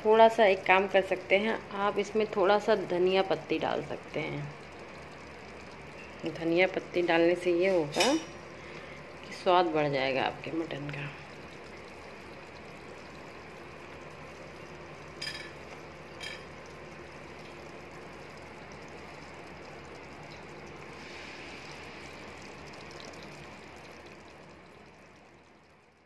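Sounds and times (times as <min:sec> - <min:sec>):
curry simmering and sizzling: 0:00.0 - 0:26.0.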